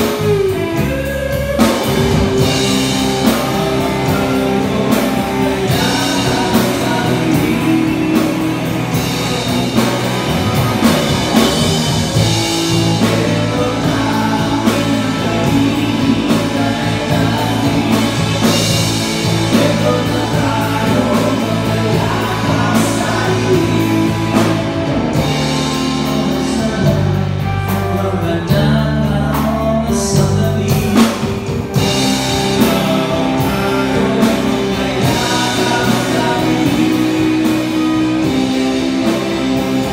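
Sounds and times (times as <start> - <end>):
drum kit: 0.0 - 39.9
electric bass: 0.0 - 39.9
electric guitar: 0.0 - 39.9
man singing: 0.0 - 39.9.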